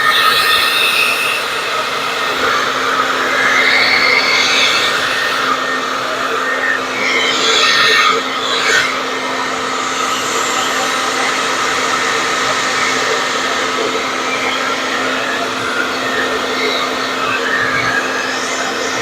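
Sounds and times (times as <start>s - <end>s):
blow dryer running: 0.0s - 19.0s.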